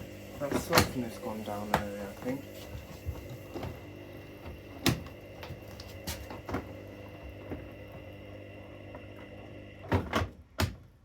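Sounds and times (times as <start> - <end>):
washing machine motor hum: 0.0 - 10.9.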